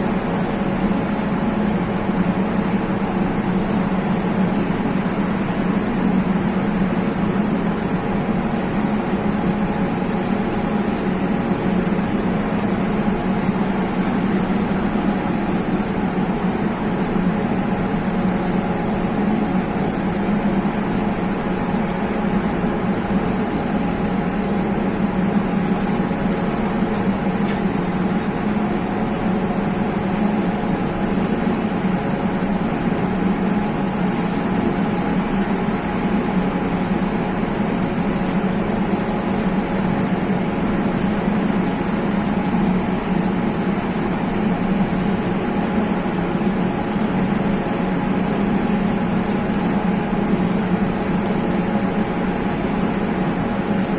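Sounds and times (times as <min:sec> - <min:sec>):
welding arc crackle: 0:00.0 - 0:53.9
welding machine hum: 0:00.0 - 0:53.9.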